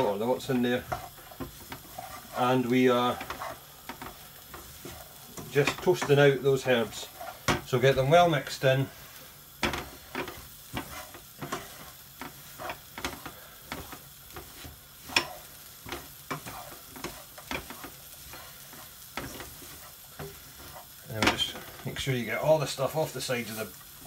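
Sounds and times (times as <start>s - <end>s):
soft sizzle: 0.0s - 24.0s
wooden spoon scraping a pan: 0.0s - 24.0s.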